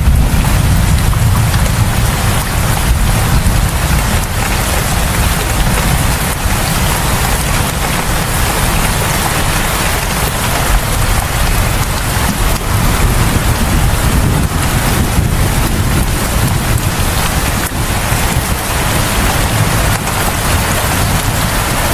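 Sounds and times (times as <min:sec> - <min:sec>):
heavy rain falling: 0:00.0 - 0:21.9
raindrop hits: 0:00.0 - 0:21.9.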